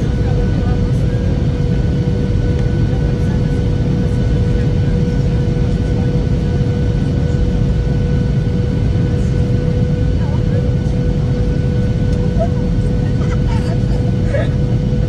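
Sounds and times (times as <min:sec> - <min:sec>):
constant droning hum: 0:00.0 - 0:15.0
jet engines rumbling: 0:00.0 - 0:15.0.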